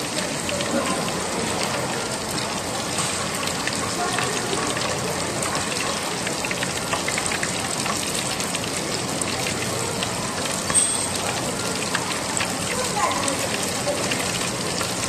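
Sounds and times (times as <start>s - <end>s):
hot oil sizzling in fryer: 0.0s - 15.0s.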